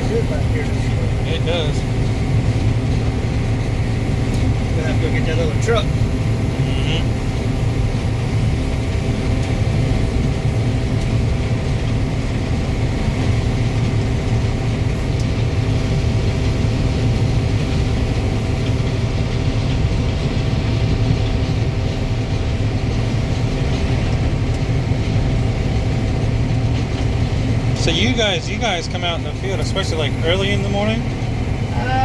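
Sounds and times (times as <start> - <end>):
combine harvester running: 0.0 - 32.0.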